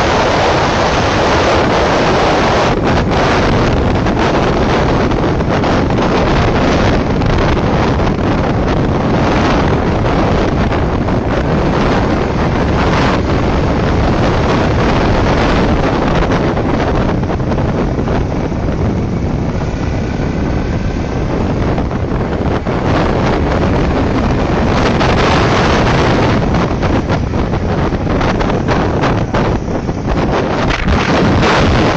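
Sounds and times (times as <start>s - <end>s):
motorcycle engine running: 0.0s - 31.9s
wind buffeting microphone: 0.0s - 31.9s.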